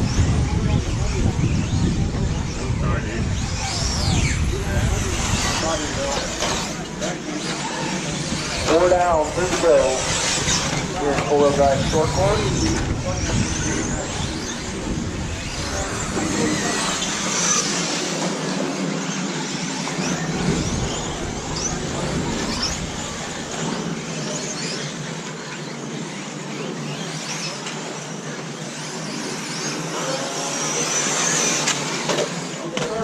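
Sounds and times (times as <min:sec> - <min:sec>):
rc truck motors whining: 0:00.0 - 0:33.0.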